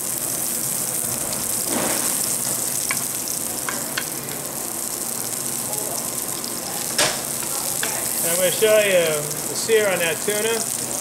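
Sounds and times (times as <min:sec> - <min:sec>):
fish searing in frying pan: 0:00.0 - 0:11.0.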